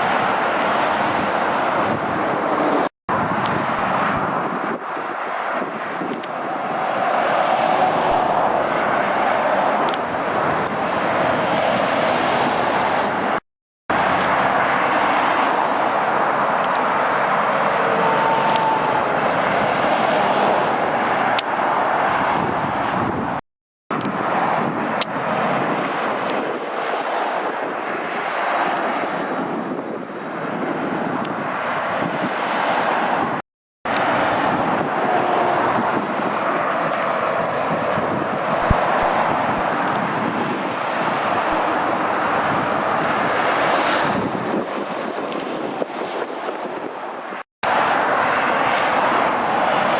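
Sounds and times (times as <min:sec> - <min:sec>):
traffic passing at speed: 0:00.0 - 0:49.9.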